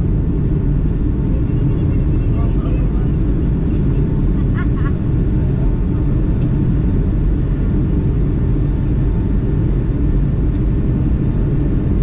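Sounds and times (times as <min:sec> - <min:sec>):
airliner engine and airflow rumble: 0:00.0 - 0:12.0.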